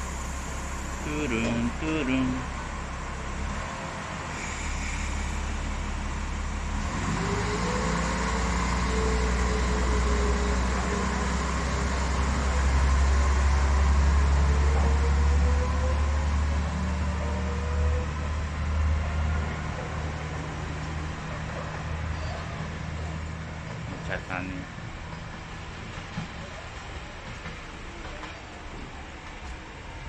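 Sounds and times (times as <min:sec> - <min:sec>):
diesel engine rumble: 0:00.0 - 0:30.0
rising train whine: 0:00.0 - 0:30.0.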